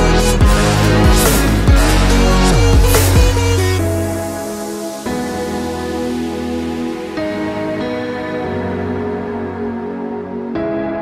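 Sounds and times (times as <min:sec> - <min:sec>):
electronic music with sliding bass: 0:00.0 - 0:10.4.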